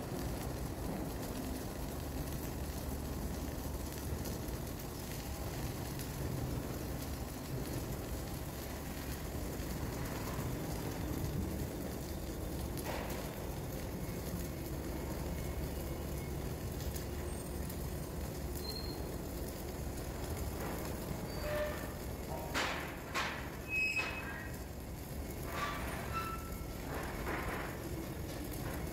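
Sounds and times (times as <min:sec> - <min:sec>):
welding arc crackling: 0:00.0 - 0:28.9.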